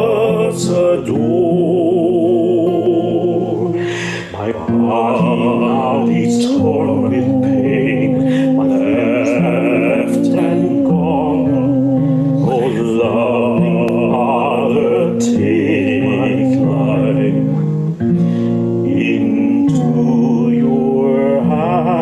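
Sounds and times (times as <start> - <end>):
men singing a hymn: 0.0 - 17.7, 18.8 - 22.0
sustained instrumental accompaniment: 0.0 - 22.0.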